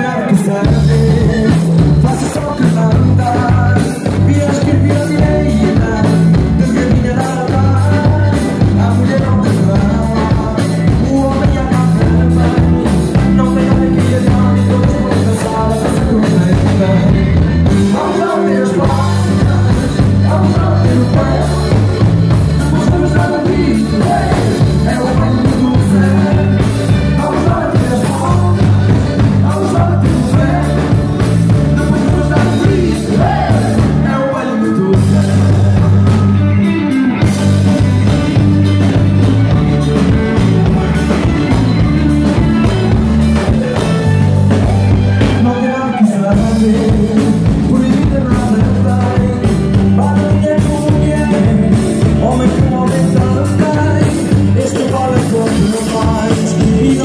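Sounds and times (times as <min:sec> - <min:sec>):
man and woman singing: 0:00.0 - 0:36.2, 0:44.6 - 0:57.0
live band dance music: 0:00.0 - 0:57.0.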